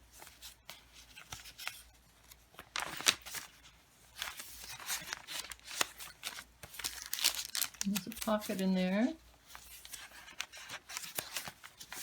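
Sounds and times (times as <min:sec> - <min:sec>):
pages rustling and crinkling: 0:00.0 - 0:12.0.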